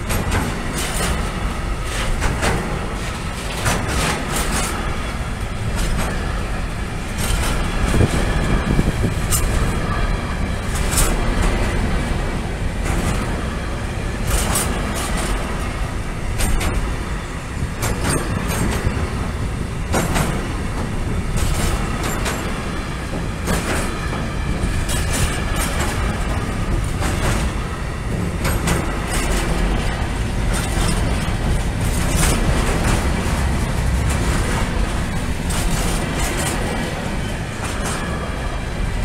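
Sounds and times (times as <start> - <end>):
steel wheels rumbling on rail: 0.0 - 39.0.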